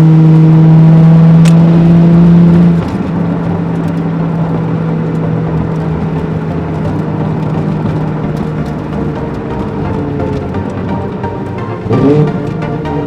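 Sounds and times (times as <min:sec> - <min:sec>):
car engine running loud: 0:00.0 - 0:13.0.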